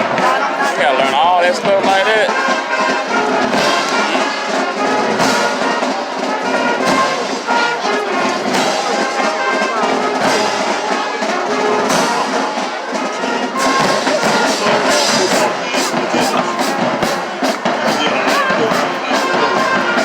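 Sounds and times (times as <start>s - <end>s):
drums: 0.0s - 20.0s
trumpets and trombones: 0.0s - 20.0s.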